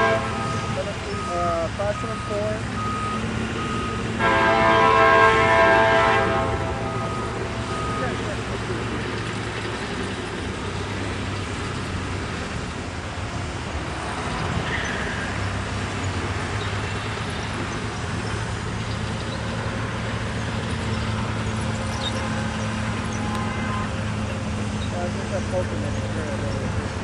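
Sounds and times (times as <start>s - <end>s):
diesel locomotive engine droning: 0.0s - 27.0s
train rumbling on rails: 0.0s - 27.0s.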